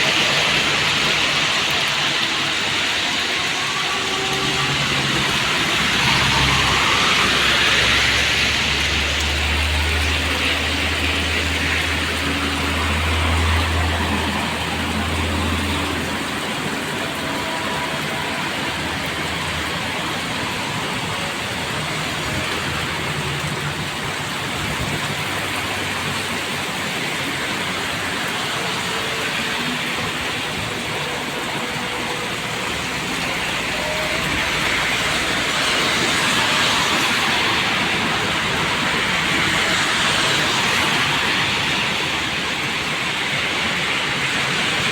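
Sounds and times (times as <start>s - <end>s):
heavy vehicle engine hum: 0.0s - 44.9s
rain and tyres on wet road: 0.0s - 44.9s.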